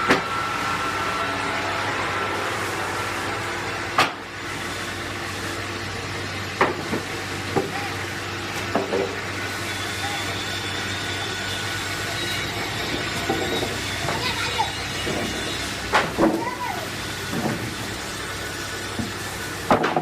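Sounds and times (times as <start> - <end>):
sawmill machinery humming: 0.0 - 20.0.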